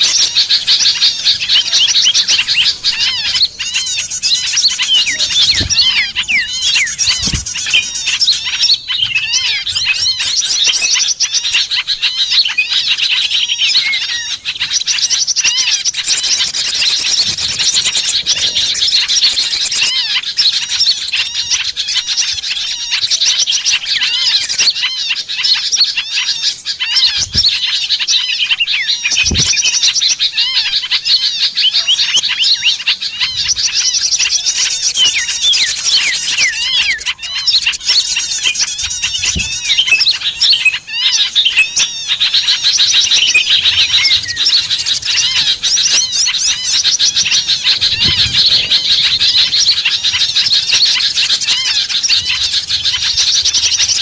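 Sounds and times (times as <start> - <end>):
many small songbirds chirping: 0.0 - 54.0.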